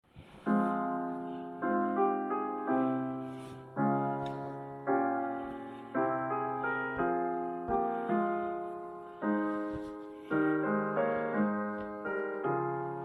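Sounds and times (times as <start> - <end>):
slow gentle piano chords: 0.1 - 13.0.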